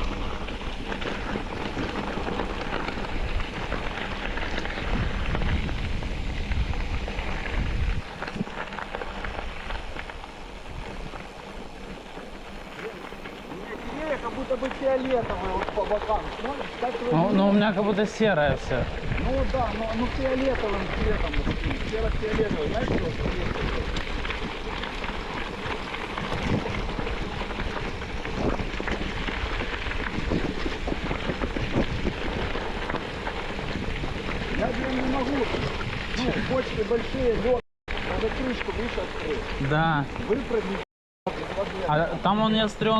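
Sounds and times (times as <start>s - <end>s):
wind on microphone: 0.0s - 40.8s
tyres crackling on gravel: 0.0s - 42.9s
vehicle rumbling on rough road: 0.0s - 42.9s.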